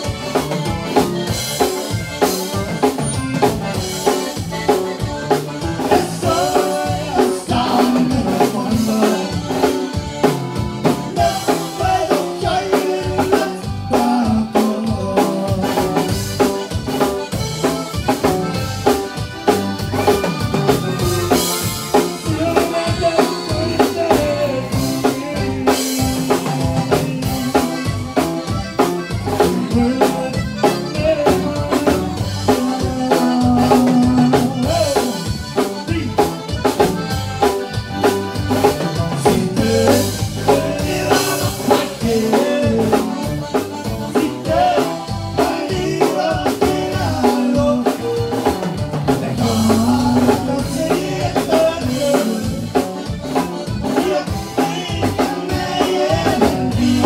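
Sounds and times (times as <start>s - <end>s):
bajo sexto guitar: 0.0s - 57.0s
button accordion: 0.0s - 57.0s
drum kit beat: 0.0s - 57.0s.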